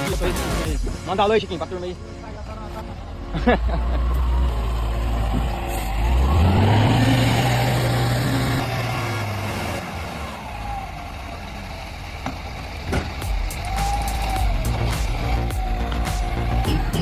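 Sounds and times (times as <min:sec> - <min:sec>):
truck engine revving: 0:03.2 - 0:17.0.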